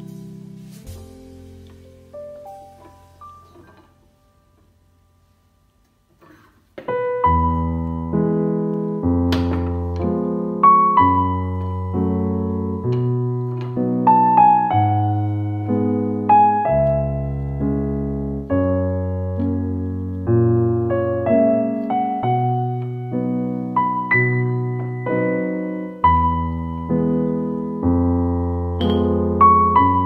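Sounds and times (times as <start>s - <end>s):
slow gentle piano music: 0.0s - 30.0s.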